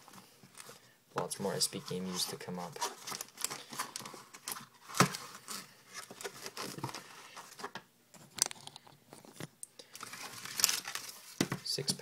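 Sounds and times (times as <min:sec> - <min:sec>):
hands handling card packs: 0:00.1 - 0:12.0.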